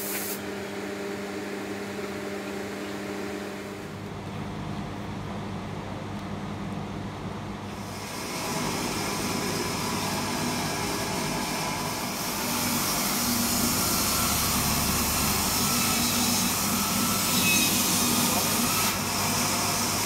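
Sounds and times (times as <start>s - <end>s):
workshop machine rushing noise: 0.0s - 4.1s, 7.7s - 20.0s.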